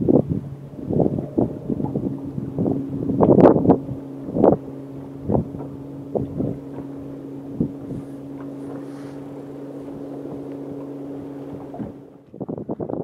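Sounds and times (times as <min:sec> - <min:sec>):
boat motor running: 0:00.0 - 0:13.0
wind on microphone: 0:00.0 - 0:13.0.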